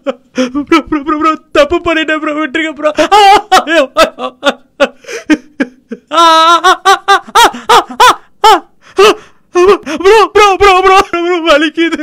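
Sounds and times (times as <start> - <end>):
man sobbing and crying out: 0.0 - 12.0.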